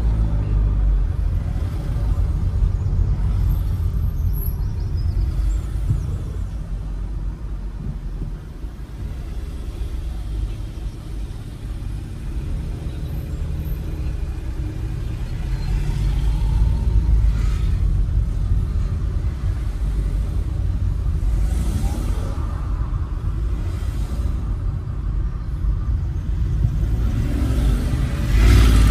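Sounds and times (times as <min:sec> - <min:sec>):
bus engine and road rumble: 0:00.0 - 0:28.9.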